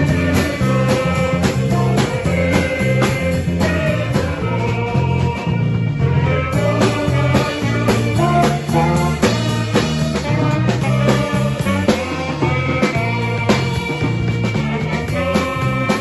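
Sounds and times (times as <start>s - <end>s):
bass line: 0.0s - 16.0s
instrumental band music: 0.0s - 16.0s.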